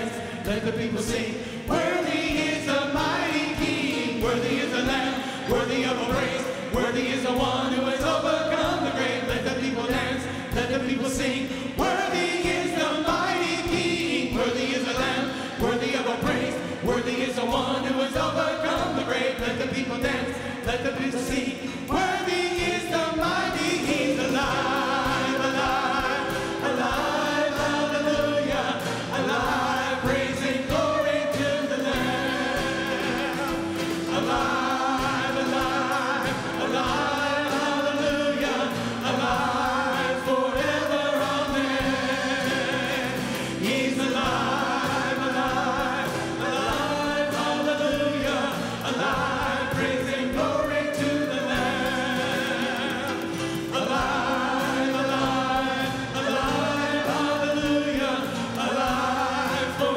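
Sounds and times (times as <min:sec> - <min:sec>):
drums: 0:00.0 - 0:59.9
guitars: 0:00.0 - 0:59.9
keyboard: 0:00.0 - 0:59.9
men and women singing: 0:00.0 - 0:59.9.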